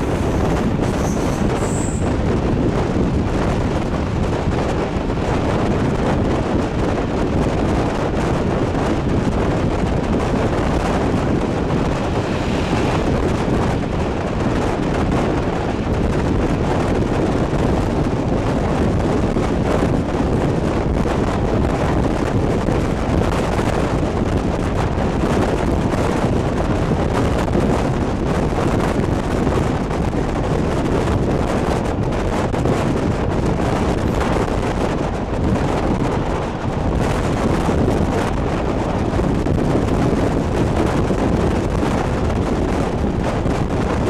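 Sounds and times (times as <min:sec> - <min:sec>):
passenger train running on track: 0:00.0 - 0:44.0
wind buffeting the microphone: 0:00.0 - 0:44.0.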